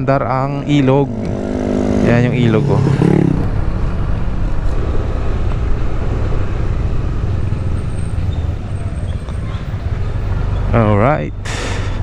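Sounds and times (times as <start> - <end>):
motor scooter rumbling: 0.0 - 11.0.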